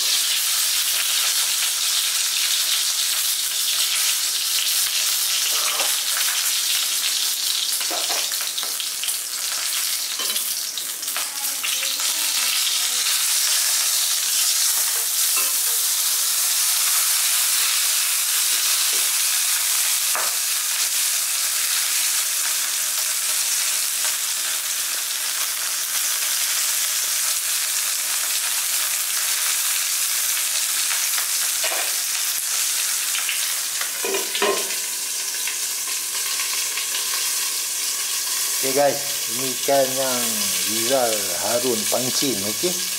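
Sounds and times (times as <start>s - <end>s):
fish sizzling in hot oil: 0.0s - 42.9s.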